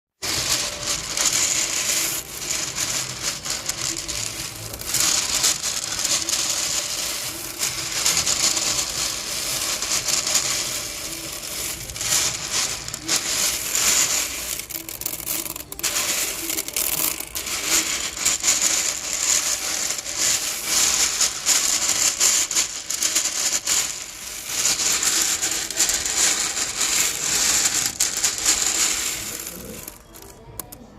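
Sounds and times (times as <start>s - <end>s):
hands stirring small beads: 0.2s - 30.8s.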